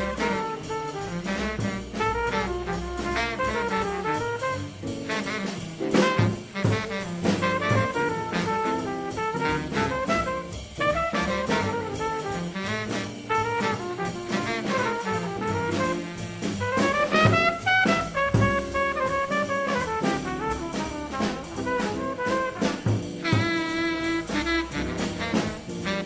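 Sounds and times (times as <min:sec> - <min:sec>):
double bass: 0:00.0 - 0:26.0
drums: 0:00.0 - 0:26.0
saxophone: 0:00.0 - 0:26.0
trumpet: 0:00.0 - 0:26.0.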